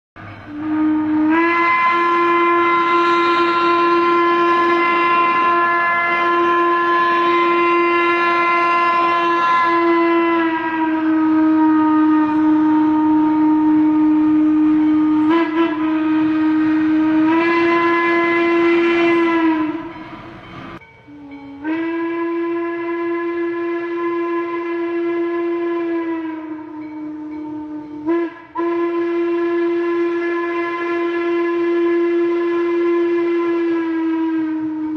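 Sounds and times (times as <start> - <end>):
steam whistle blast: 0.2 - 34.9.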